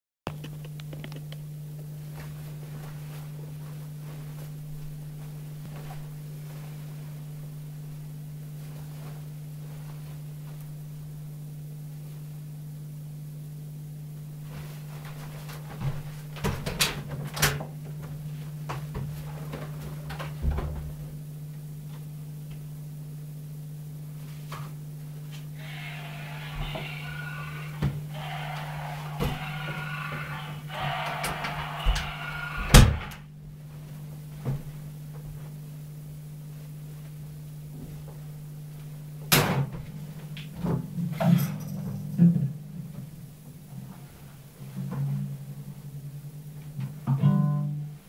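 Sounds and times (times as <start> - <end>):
steady low hum: 0.3 - 48.0.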